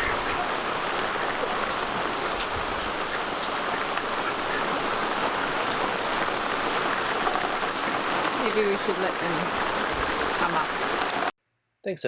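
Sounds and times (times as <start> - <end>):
faint water splashes: 0.0 - 11.3
running water: 0.0 - 11.3.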